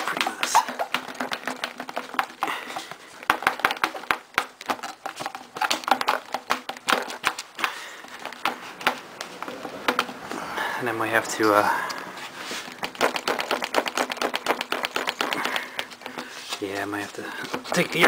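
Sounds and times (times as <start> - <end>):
hand tools clicking and tapping: 0.0 - 10.2, 12.7 - 18.0.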